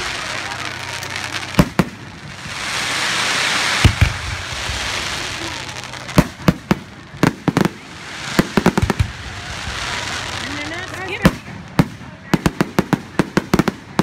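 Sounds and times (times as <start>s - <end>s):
fireworks bursting with bangs: 0.0s - 14.0s
steady hiss: 0.0s - 14.0s.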